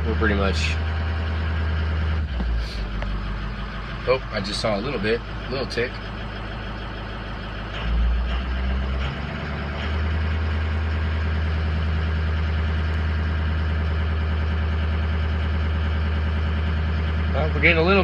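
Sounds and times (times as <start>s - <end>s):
diesel engine idling and revving: 0.0s - 18.0s.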